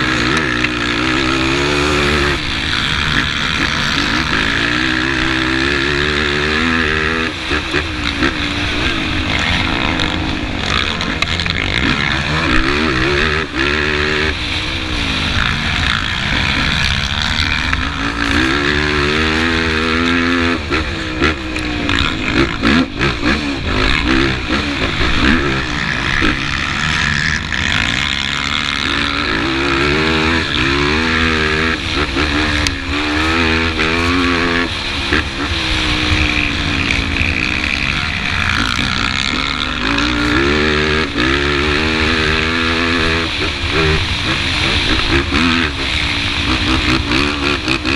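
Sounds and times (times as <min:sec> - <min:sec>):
atv engine revving: 0:00.0 - 0:47.9.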